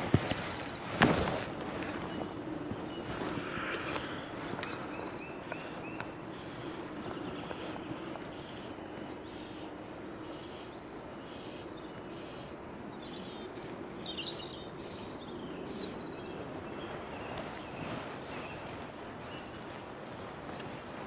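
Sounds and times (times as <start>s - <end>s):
blackbird singing: 0.0s - 9.8s, 10.4s - 20.6s.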